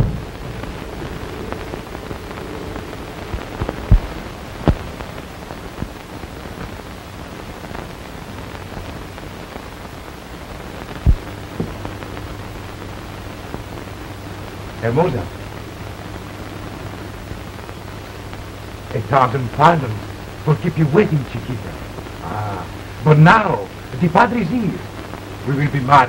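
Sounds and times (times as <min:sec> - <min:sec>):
faint low hum: 0:00.0 - 0:26.0
film soundtrack hiss: 0:00.0 - 0:26.0.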